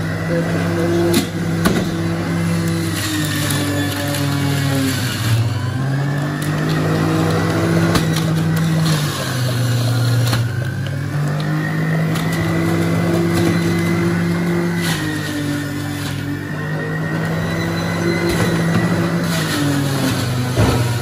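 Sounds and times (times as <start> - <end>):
juicer motor running: 0.0 - 21.0.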